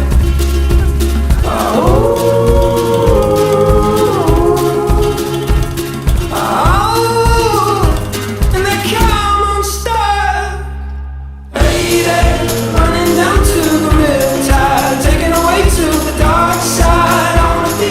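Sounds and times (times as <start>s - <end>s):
pop song with singing: 0.0s - 17.9s
song with steady beat and singer: 0.0s - 17.9s.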